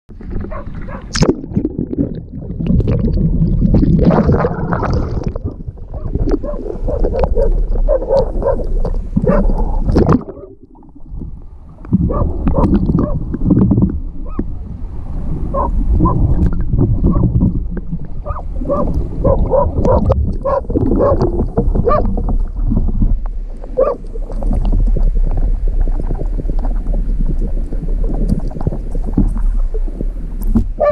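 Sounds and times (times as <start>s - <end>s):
sea water sloshing and splashing: 0.1s - 30.9s
wind rumbling on microphone: 0.1s - 30.9s.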